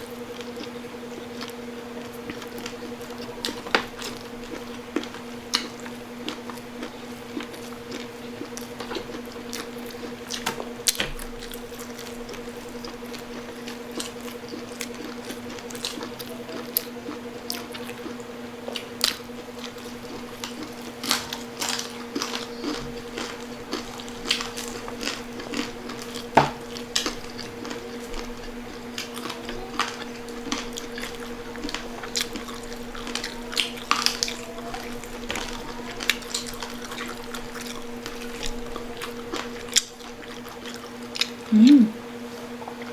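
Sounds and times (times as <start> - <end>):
people chewing crispy food: 0.0 - 42.9
steady low hum: 0.0 - 42.9.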